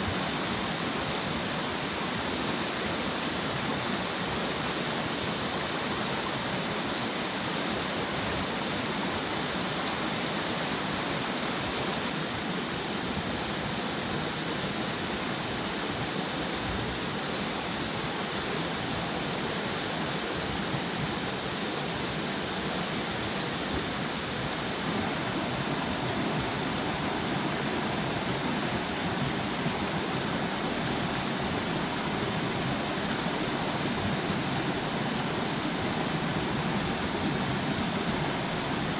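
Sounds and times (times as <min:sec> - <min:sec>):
stream running over stones: 0:00.0 - 0:38.9.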